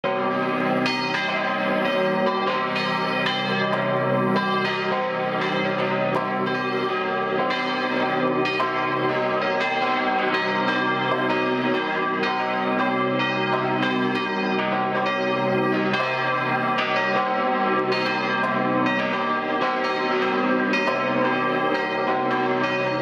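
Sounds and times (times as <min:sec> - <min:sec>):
church bells pealing: 0:00.0 - 0:23.0.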